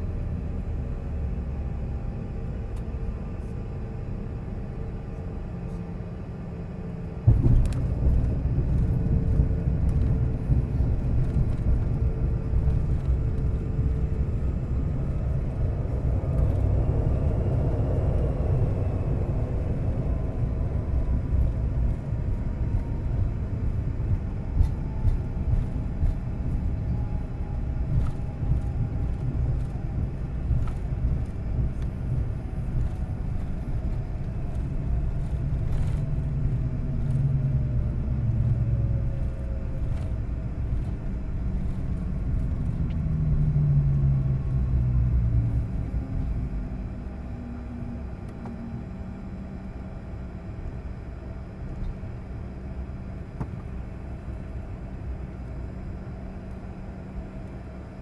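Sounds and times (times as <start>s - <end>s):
jet engine whine falling in pitch: 0.1s - 58.0s
wheels and airframe rumbling: 1.6s - 58.0s.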